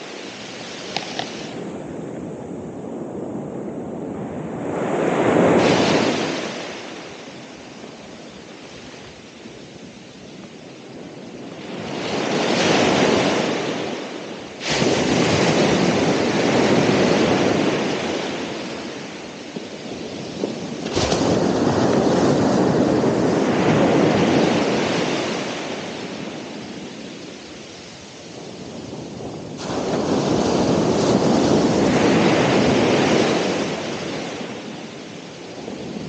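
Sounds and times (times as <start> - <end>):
ocean surf breaking on shore: 0.0 - 36.0.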